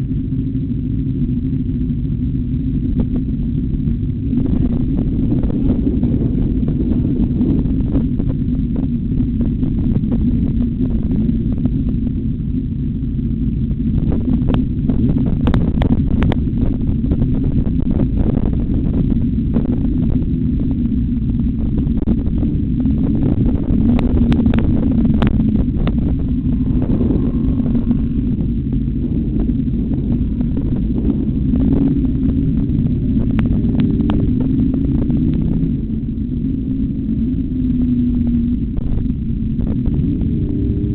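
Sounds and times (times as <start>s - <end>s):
motorcycle engine running hard: 0.0s - 40.9s
wind rush on microphone: 0.0s - 40.9s.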